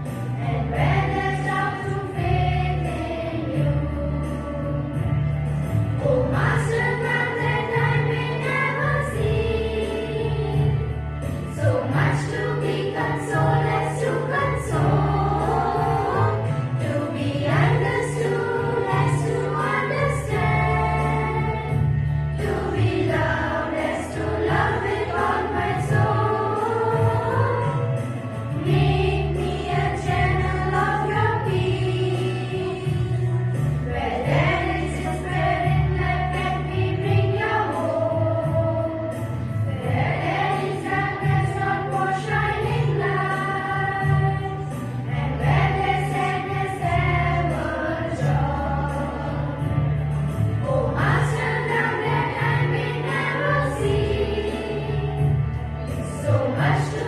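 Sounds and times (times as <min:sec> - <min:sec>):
choir singing a hymn: 0:00.0 - 0:57.0
instrumental accompaniment: 0:00.0 - 0:57.0.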